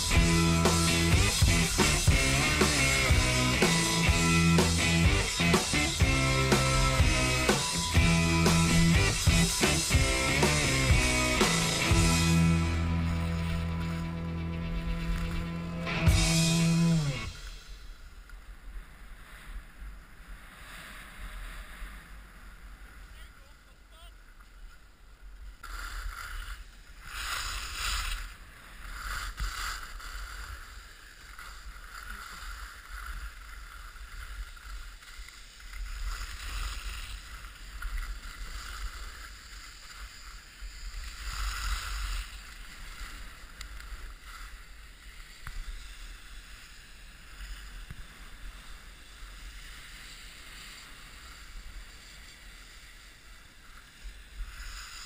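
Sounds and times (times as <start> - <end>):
skis scraping over snow: 0.0 - 55.0.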